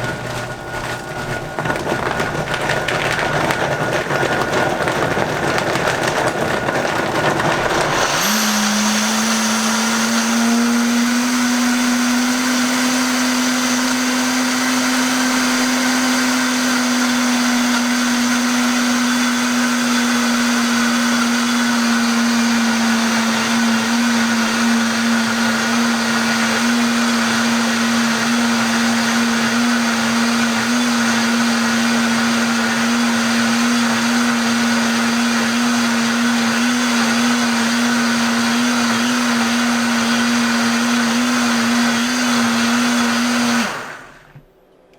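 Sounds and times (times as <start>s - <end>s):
blender running: 0.0s - 44.5s.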